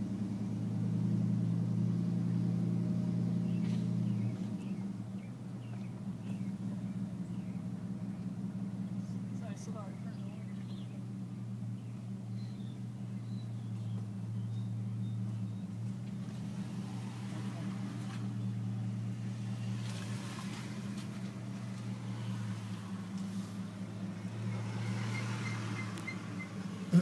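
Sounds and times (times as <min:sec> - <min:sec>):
car engine humming: 0:00.0 - 0:27.0
road and tyre noise: 0:00.0 - 0:27.0.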